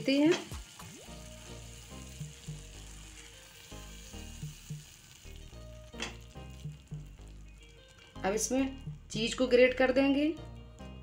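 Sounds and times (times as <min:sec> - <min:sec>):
noodles sizzling in a pan: 0:00.0 - 0:11.0.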